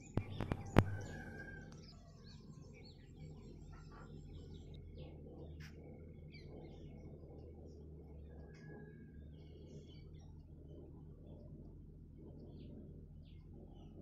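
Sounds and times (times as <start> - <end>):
faint low rumble: 0.0 - 14.0
small birds chirping: 0.0 - 14.0.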